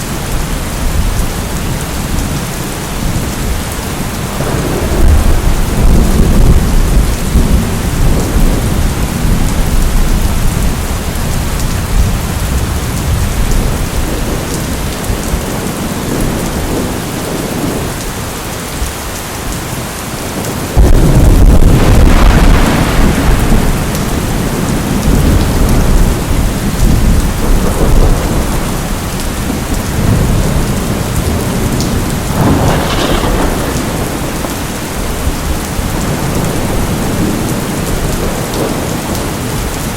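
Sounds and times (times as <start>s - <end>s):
heavy rain: 0.0s - 39.9s
thunder rumbling: 0.0s - 39.9s
loud thunderclap: 4.4s - 17.9s, 20.4s - 39.6s.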